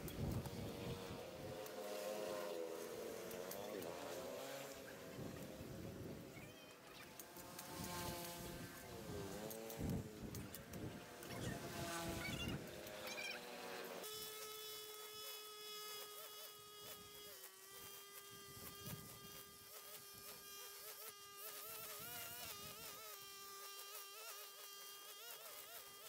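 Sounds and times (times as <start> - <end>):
small motor buzzing: 0.0 - 26.0.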